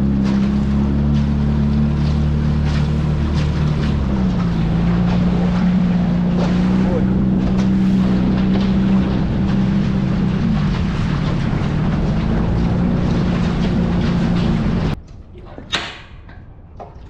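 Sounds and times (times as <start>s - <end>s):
outboard motor drone: 0.0s - 15.0s
water rushing past hull: 0.0s - 17.0s.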